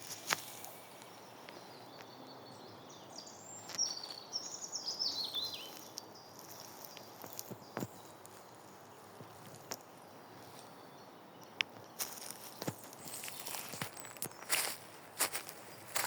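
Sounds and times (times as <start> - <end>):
soft outdoor hiss: 0.0 - 16.0.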